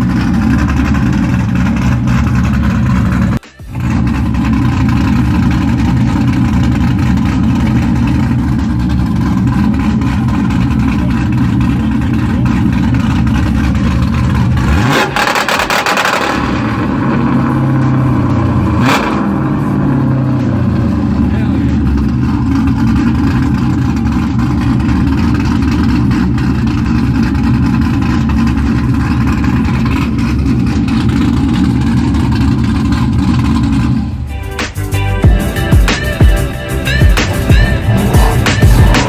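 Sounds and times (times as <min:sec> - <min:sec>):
car engine idling loudly: 0:00.0 - 0:39.0
engine revving: 0:00.0 - 0:39.0
sharp exhaust crack: 0:00.0 - 0:39.0.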